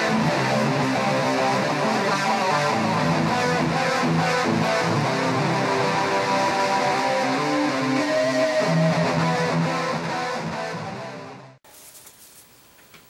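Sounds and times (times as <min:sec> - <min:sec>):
electric guitar music: 0:00.0 - 0:11.6.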